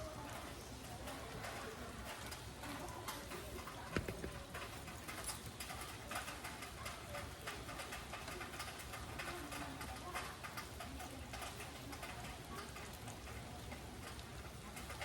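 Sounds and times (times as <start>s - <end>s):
rain drops pattering: 0.0s - 15.0s.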